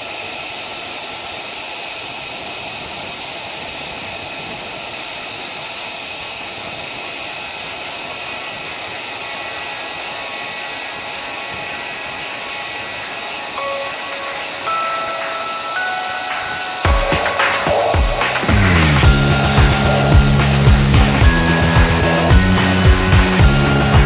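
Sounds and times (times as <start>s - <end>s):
jet engine running: 0.0s - 24.0s.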